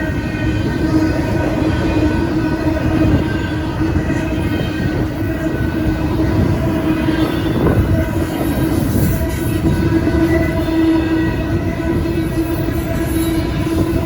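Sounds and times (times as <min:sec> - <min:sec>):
droning tone: 0:00.0 - 0:14.0
freight train rumble: 0:00.0 - 0:14.0.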